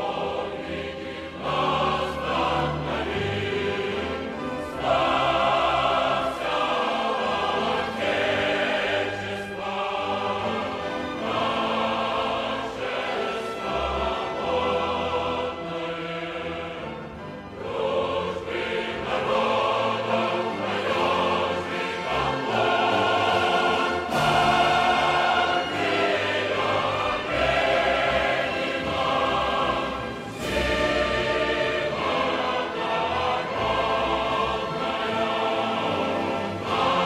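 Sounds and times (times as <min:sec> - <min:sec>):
choir singing: 0:00.0 - 0:37.0.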